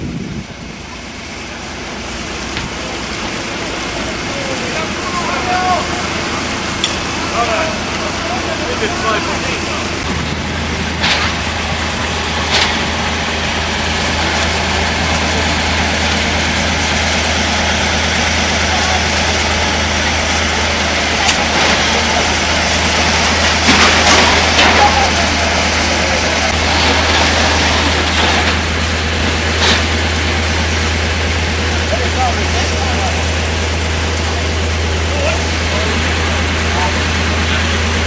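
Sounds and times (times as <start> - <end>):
diesel engines running: 0.0 - 38.0.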